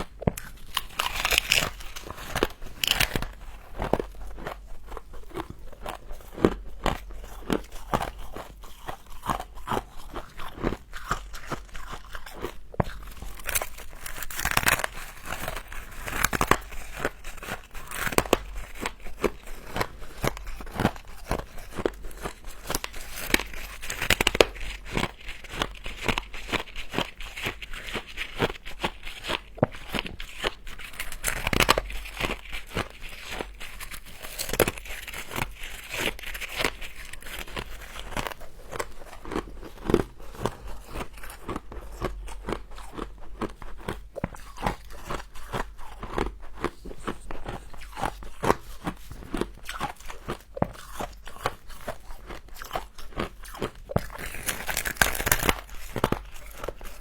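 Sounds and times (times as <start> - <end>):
person crunching frost: 0.0 - 57.0.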